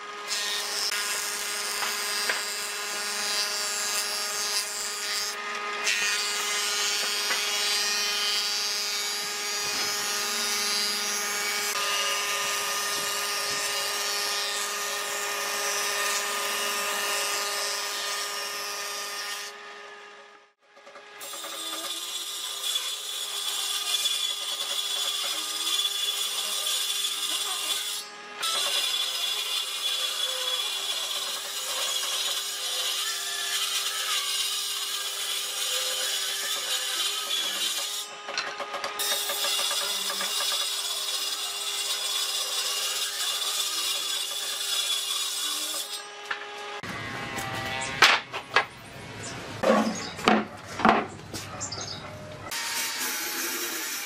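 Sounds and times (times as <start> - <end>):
power tool cutting wood: 0.0 - 48.3, 52.5 - 54.0.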